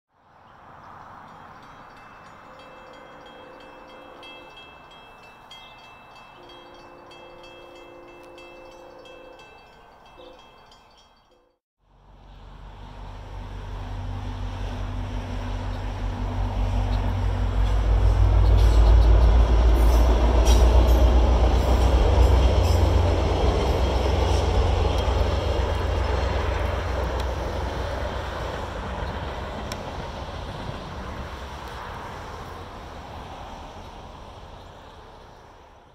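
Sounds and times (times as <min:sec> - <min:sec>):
train rumbling over bridge: 0:00.3 - 0:35.9.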